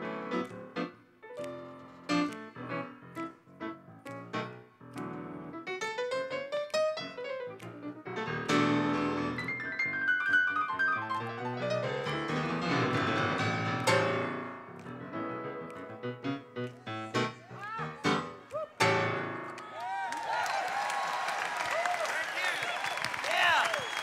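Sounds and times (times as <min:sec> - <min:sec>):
grand piano playing runs and chords: 0:00.0 - 0:19.7.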